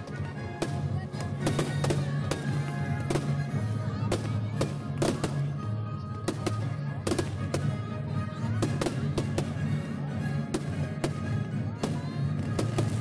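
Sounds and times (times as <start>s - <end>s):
fireworks banging: 0.0s - 5.6s, 6.2s - 7.8s, 8.5s - 9.8s, 10.4s - 13.0s.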